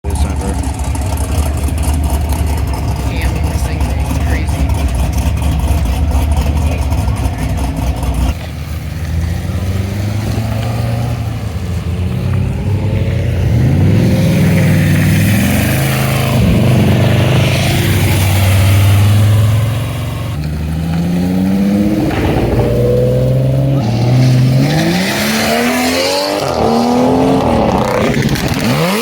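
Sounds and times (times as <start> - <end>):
car engines revving and accelerating: 0.0 - 29.0
loud rumbling car engine: 0.0 - 29.0.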